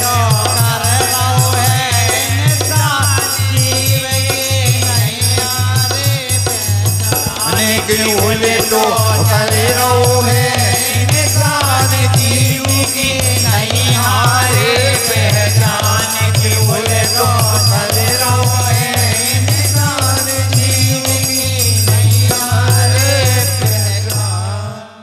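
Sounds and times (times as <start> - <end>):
hand drum beating a rhythm: 0.0 - 24.3
harmonium melody: 0.0 - 25.0
jingling percussion: 0.0 - 25.0.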